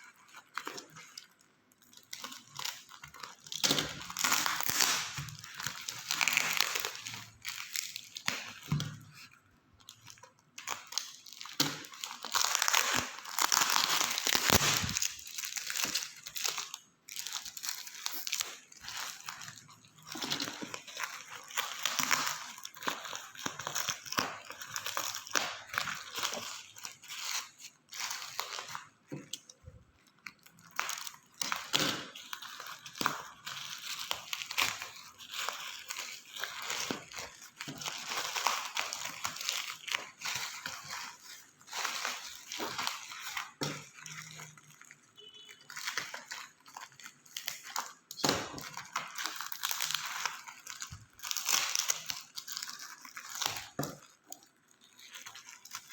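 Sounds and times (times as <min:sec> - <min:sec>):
packaging crinkling: 0:00.0 - 0:55.9.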